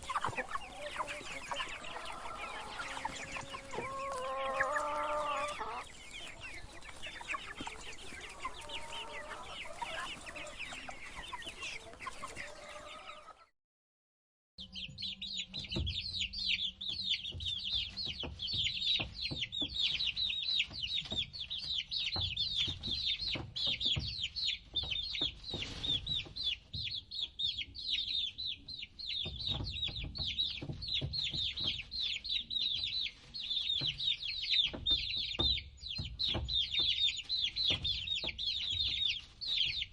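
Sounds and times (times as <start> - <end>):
chickens clucking: 0.0 - 13.5, 14.7 - 39.9
chicks peeping: 0.0 - 13.5, 14.6 - 39.9.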